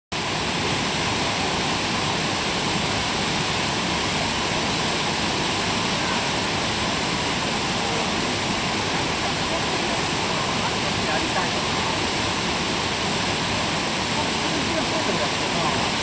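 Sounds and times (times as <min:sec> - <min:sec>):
waterfall rushing: 0:00.2 - 0:16.0.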